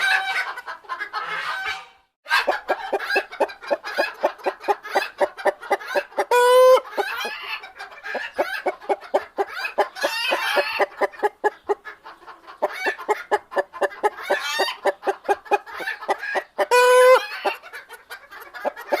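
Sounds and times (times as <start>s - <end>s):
chicken clucking: 0.0s - 19.0s
chicken squawking: 0.0s - 19.0s.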